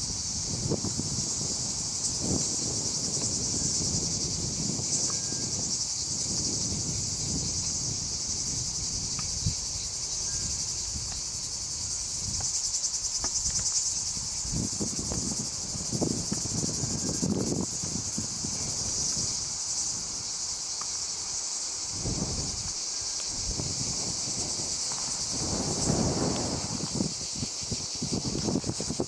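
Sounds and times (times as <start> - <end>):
insects chirring: 0.0 - 29.0
wind gusts on microphone: 0.0 - 29.0.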